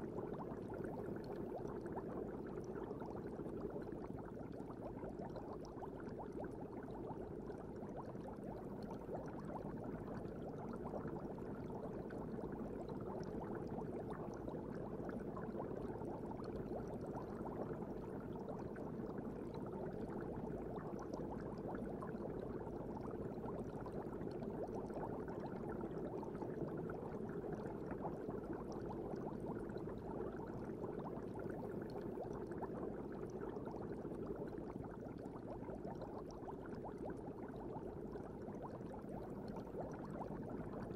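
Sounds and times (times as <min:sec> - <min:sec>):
muffled aquarium water noise: 0:00.0 - 0:40.9.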